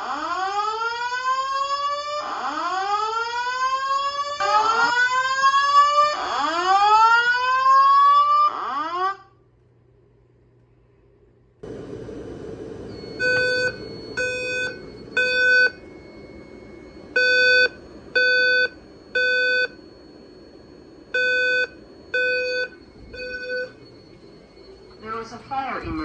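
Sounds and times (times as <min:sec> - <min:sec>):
fire alarm low alert tone: 0:00.0 - 0:09.3, 0:12.9 - 0:26.0.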